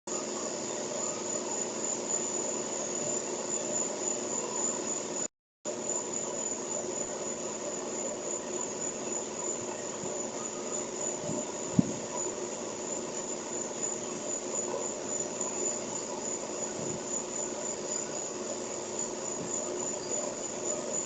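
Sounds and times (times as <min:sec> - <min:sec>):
insects chirring: 0:00.1 - 0:21.0.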